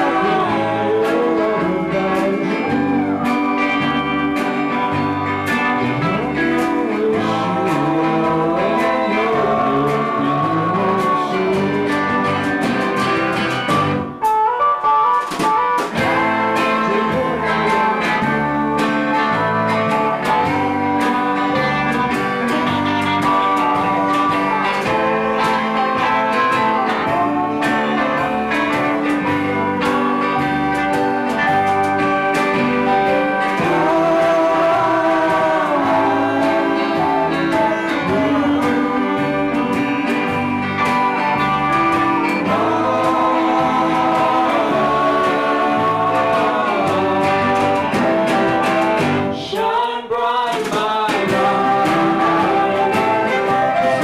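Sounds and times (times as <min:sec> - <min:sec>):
person singing: 0:00.0 - 0:13.9, 0:15.4 - 0:54.0
bass line: 0:00.0 - 0:49.7, 0:50.8 - 0:54.0
strummed guitar: 0:00.0 - 0:54.0.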